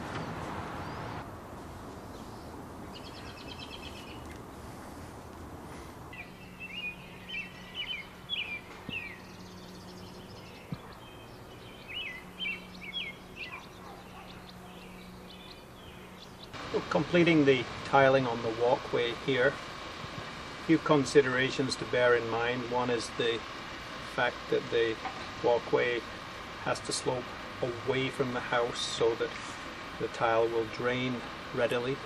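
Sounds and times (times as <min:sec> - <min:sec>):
songbird singing: 0:00.0 - 0:01.2, 0:02.0 - 0:04.6, 0:06.1 - 0:32.0.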